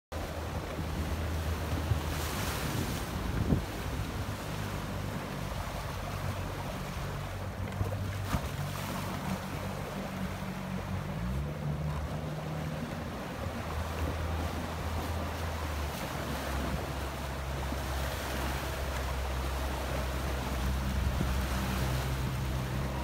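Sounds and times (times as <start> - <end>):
waves splashing: 0.1 - 23.0
wind on microphone: 0.2 - 10.4, 11.0 - 23.0
outboard motor running: 0.2 - 23.0.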